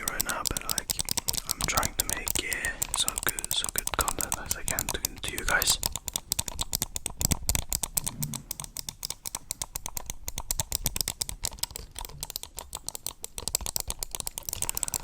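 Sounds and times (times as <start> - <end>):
fast keyboard typing: 0.0 - 15.0.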